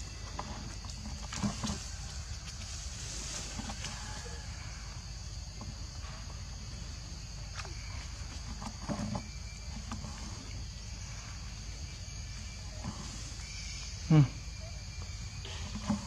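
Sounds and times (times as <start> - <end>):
high-pitched insect chorus: 0.0 - 16.0
rustle: 0.0 - 16.0.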